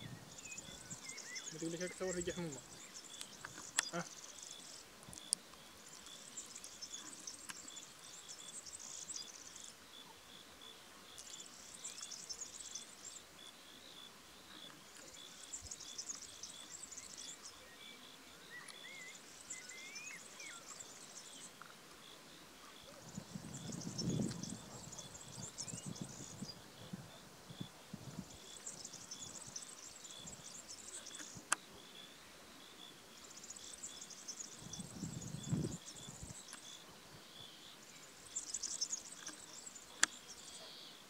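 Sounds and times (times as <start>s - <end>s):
faint bird chirps: 0.0s - 41.0s
insects buzzing trills: 0.0s - 41.0s
rapid insect chirping: 0.0s - 41.0s.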